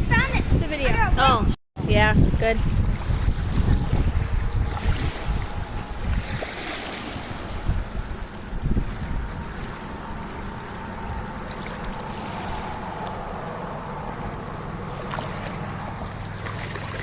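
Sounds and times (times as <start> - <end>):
boat motor humming: 0.0 - 17.0
wind noise: 0.0 - 17.0
water washing: 1.9 - 17.0.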